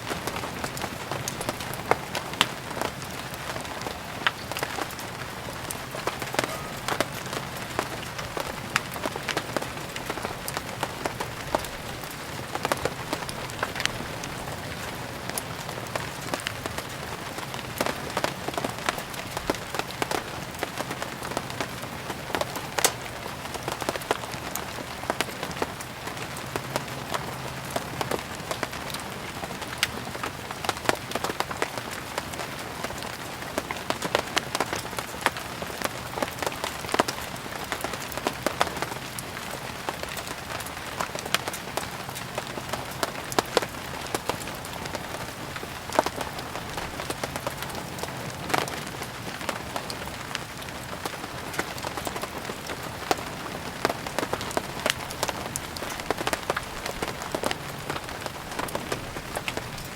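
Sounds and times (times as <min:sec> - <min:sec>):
firewood crackling and popping: 0:00.0 - 0:59.9
rain falling: 0:00.0 - 0:59.9.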